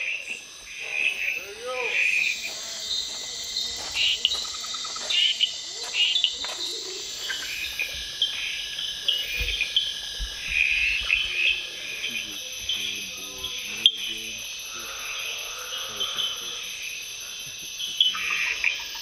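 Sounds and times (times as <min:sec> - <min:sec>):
frogs chirping calls: 0:00.0 - 0:19.0
insects trilling: 0:00.0 - 0:19.0.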